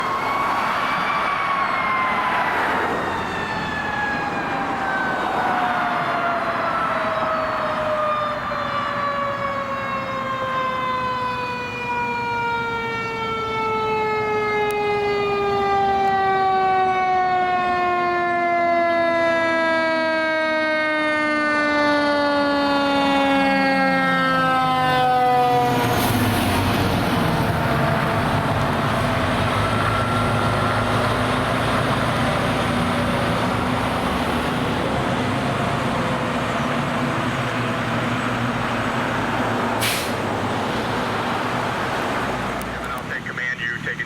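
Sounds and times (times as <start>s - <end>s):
mechanical siren winding down: 0.0s - 37.1s.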